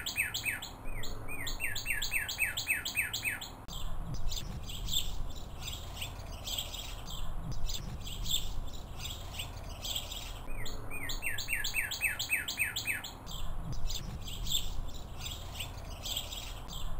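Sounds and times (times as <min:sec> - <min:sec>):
wild birds chirping: 0:00.0 - 0:16.9.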